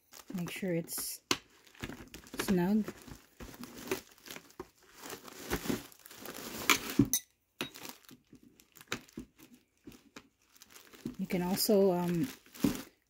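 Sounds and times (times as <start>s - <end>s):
rustling: 0.0s - 7.1s, 7.7s - 13.0s.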